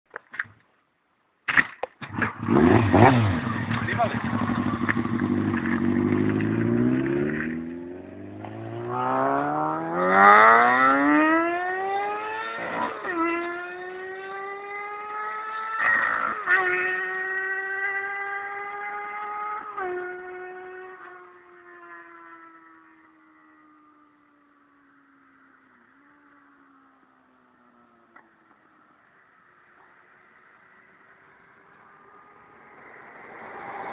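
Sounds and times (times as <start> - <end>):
motorcycle engine accelerating: 2.0 - 33.9.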